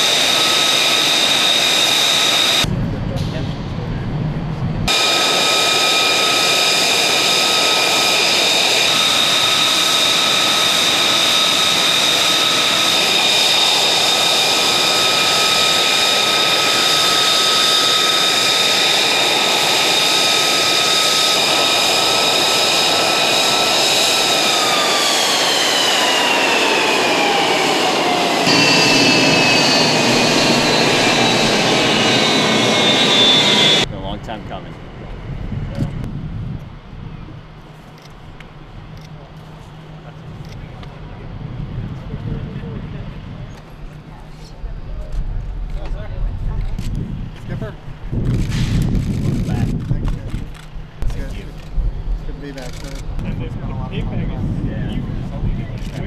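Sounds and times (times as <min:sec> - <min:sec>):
jet engine rushing noise: 0:00.0 - 0:37.4, 0:39.8 - 0:56.0
jet engine high whine: 0:00.0 - 0:56.0.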